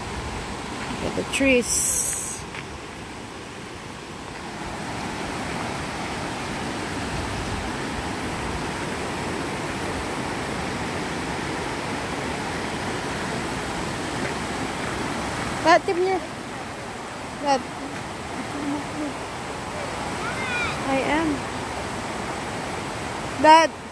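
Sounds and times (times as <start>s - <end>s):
creek rushing over stones: 0.0s - 23.9s.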